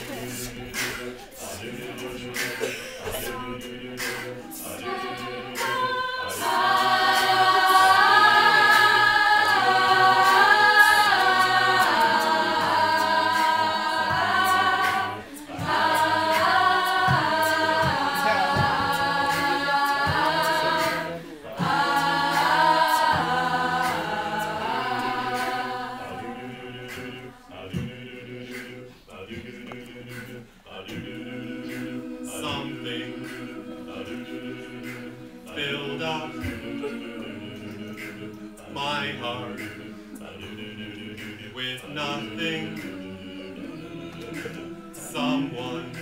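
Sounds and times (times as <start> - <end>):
a cappella group singing: 0.0 - 46.0.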